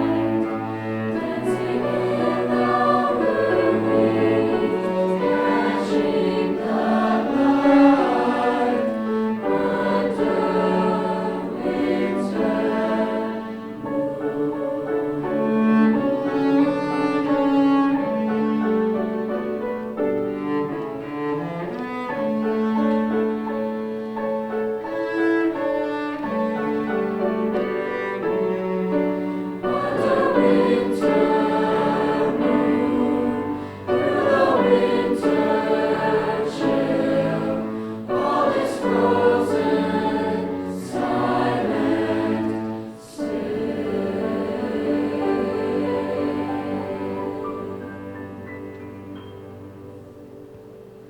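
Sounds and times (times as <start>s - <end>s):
choir singing: 0.0s - 19.7s, 25.4s - 49.2s.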